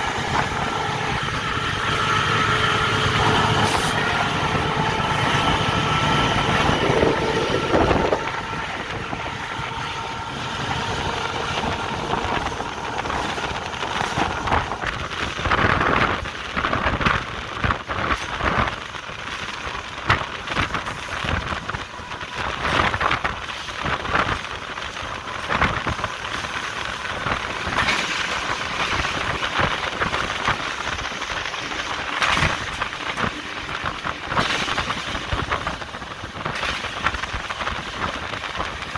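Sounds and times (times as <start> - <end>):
diesel locomotive engine rumble: 0.0 - 38.9.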